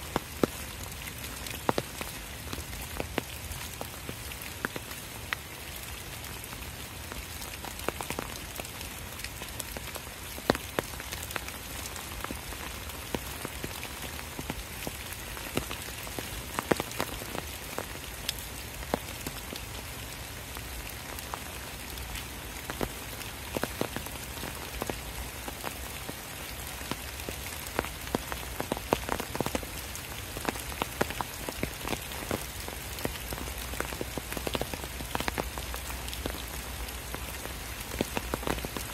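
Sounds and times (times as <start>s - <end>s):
rain falling through trees: 0.0s - 38.9s.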